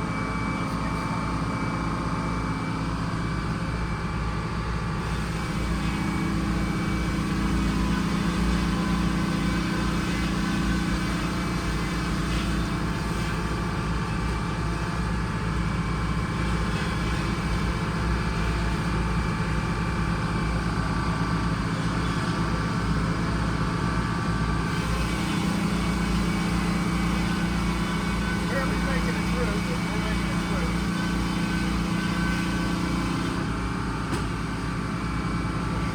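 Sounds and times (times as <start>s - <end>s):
old bus engine running: 0.0s - 35.9s.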